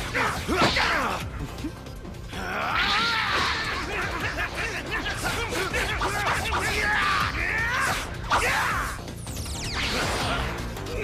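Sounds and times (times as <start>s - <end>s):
dramatic background music: 0.0s - 11.0s.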